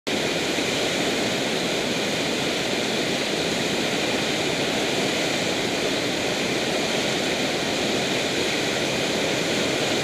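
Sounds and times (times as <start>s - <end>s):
river rushing through rapids: 0.1s - 10.0s.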